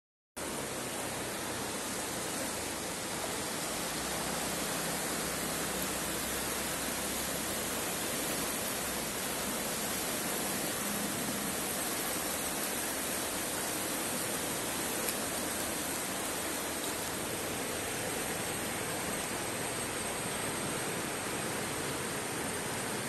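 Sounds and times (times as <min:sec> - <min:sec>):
river rushing over rocks: 0:00.4 - 0:23.0.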